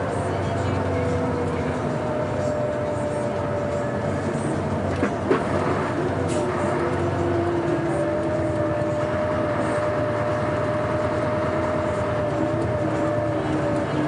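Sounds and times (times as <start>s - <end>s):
diesel engine drone with whine: 0.0s - 14.0s
road noise: 0.0s - 14.0s.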